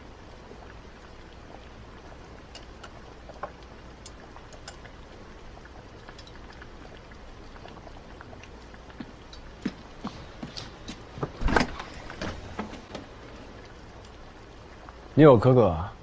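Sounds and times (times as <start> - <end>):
faint ticks and clicks: 0.0 - 10.7, 12.8 - 15.1
low background hiss: 0.0 - 16.0.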